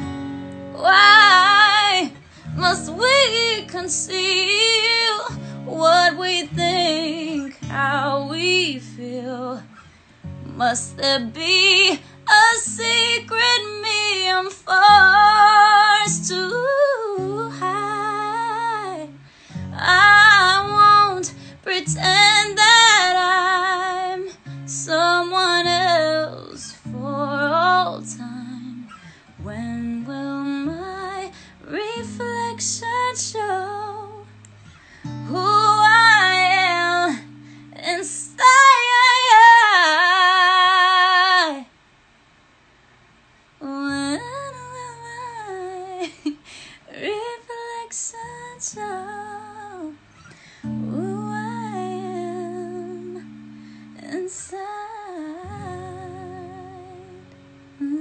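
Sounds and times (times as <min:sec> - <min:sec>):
acoustic guitar: 0:00.0 - 0:41.6, 0:43.8 - 0:58.0
woman singing: 0:00.0 - 0:41.7, 0:43.6 - 0:58.0.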